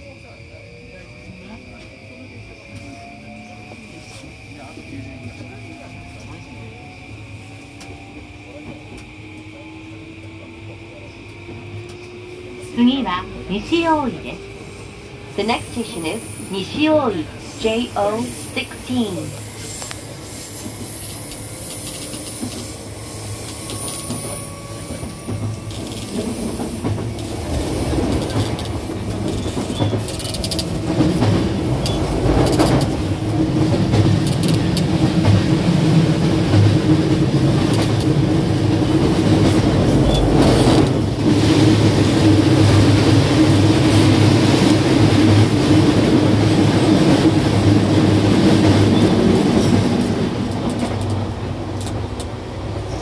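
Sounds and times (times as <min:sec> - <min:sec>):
electric train rumble and hum: 0:00.0 - 0:53.0.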